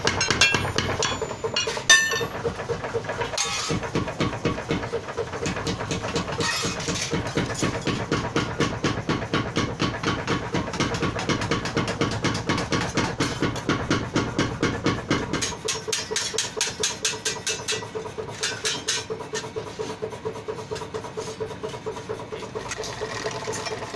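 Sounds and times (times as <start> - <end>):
power hammer clanging on steel: 0.0 - 19.6
machinery knocking rhythmically: 0.0 - 23.9.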